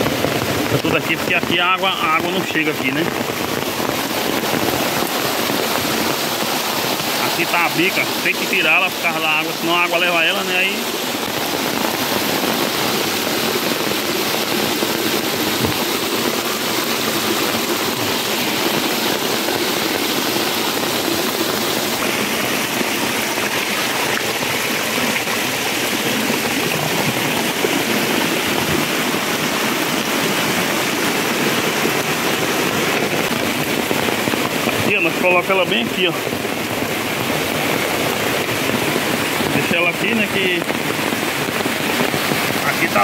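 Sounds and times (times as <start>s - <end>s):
stream rushing over stones: 0.0s - 43.0s.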